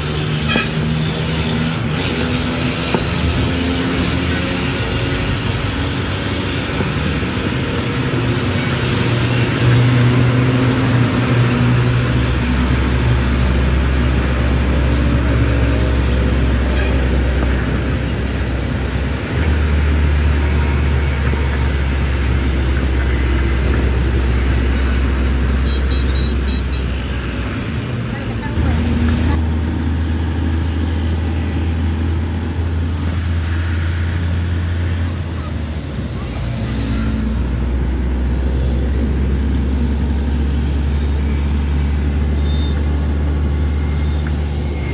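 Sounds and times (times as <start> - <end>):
truck engine running: 0.0 - 44.9
tyre and road noise: 0.0 - 44.9.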